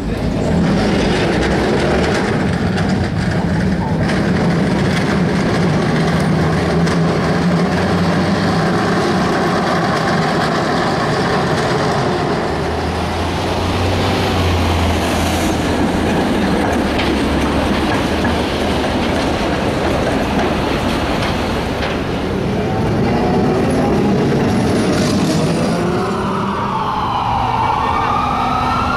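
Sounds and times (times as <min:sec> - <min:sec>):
streetcar wheels and motors rumbling: 0:00.0 - 0:28.9.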